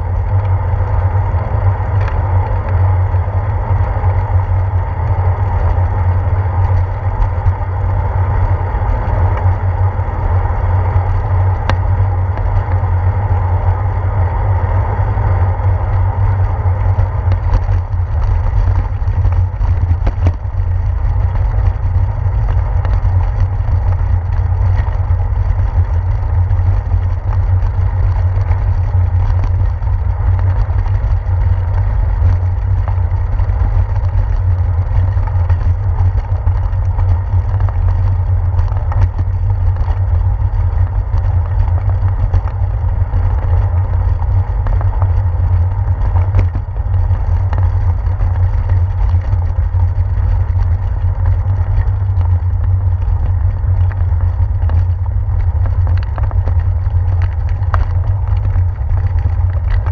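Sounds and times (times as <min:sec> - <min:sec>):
bicycle road vibration rumble: 0:00.0 - 0:59.9
wind buffeting: 0:00.0 - 0:59.9.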